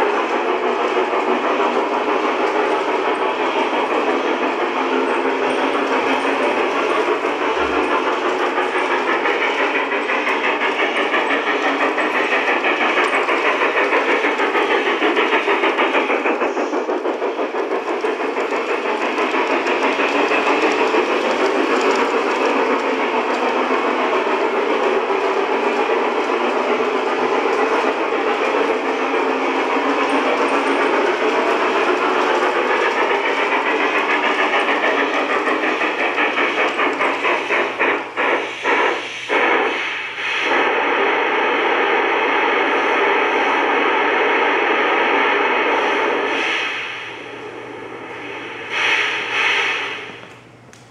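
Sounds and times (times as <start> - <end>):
model steam train chuffing: 0.0 - 50.9.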